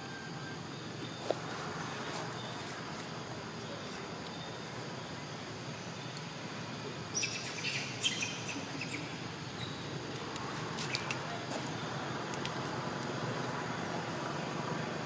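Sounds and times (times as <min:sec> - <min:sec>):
background hiss: 0:00.2 - 0:15.0.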